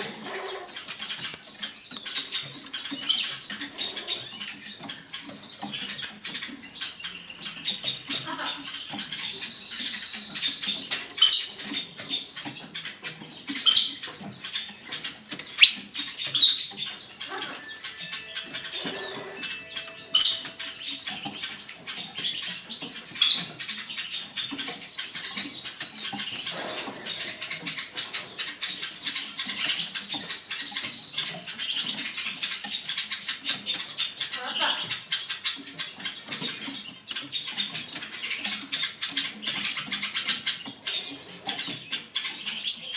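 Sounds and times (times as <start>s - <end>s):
cage birds chirping: 0.0s - 42.9s.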